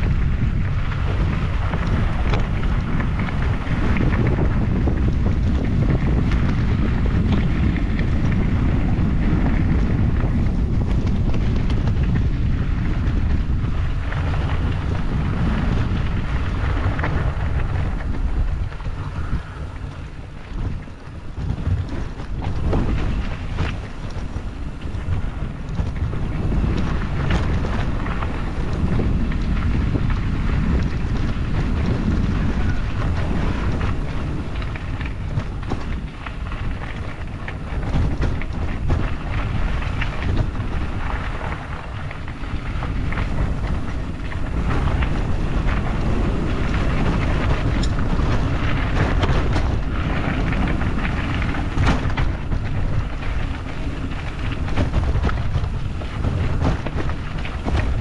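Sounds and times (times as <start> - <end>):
bike knocks and rattles: 0.0 - 58.0
wind buffeting microphone: 0.0 - 58.0.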